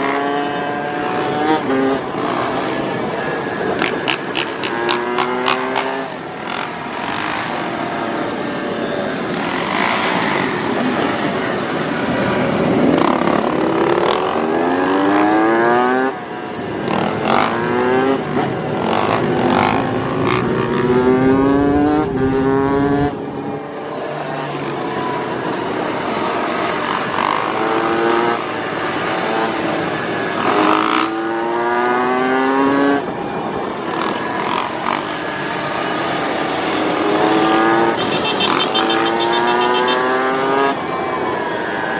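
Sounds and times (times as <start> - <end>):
motorcycle engine accelerating: 0.0 - 41.4.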